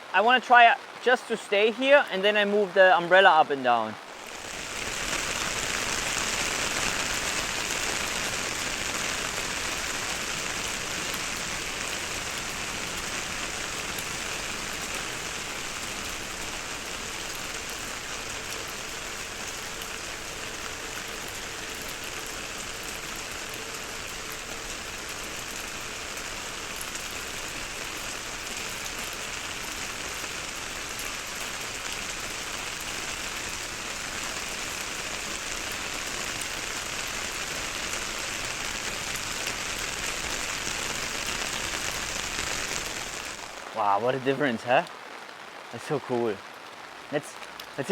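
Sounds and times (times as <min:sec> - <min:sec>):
heavy rain on umbrella: 0:00.0 - 0:47.9.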